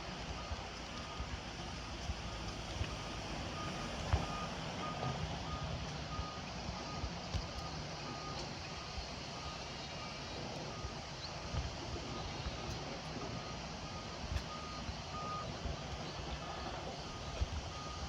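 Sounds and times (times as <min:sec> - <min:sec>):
vehicle reversing alarm beeping: 0:00.0 - 0:18.0.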